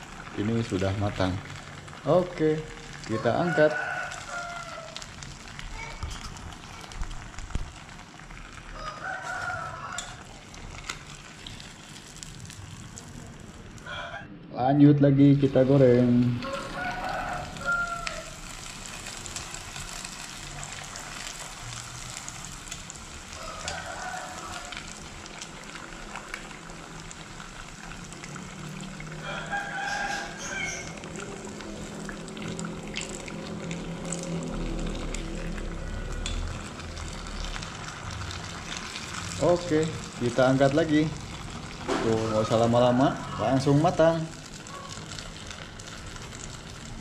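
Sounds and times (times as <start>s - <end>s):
deep-frying bubbling sizzle: 0.0s - 14.2s, 15.2s - 47.0s.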